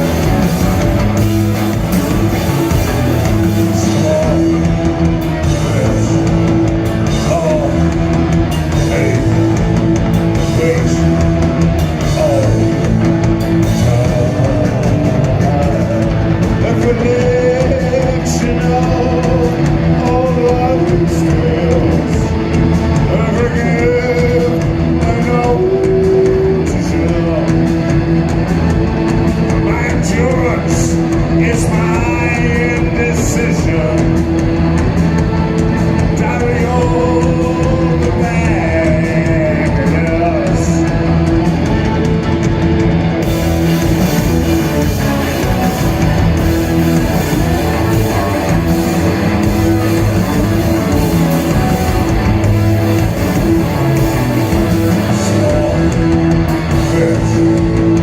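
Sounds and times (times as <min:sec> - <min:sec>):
person singing: 0:00.0 - 0:28.0, 0:29.5 - 0:41.3, 0:43.6 - 0:58.0
rock music with guitar: 0:00.0 - 0:58.0.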